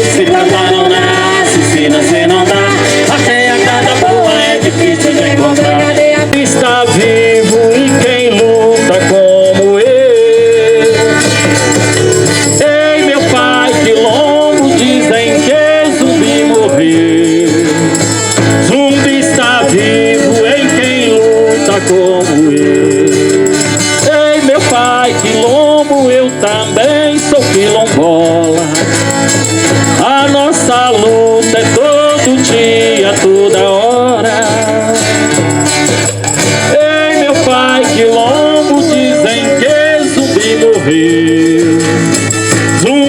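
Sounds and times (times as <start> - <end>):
hand rattle shaken: 0.0 - 43.0
people singing: 0.0 - 43.0.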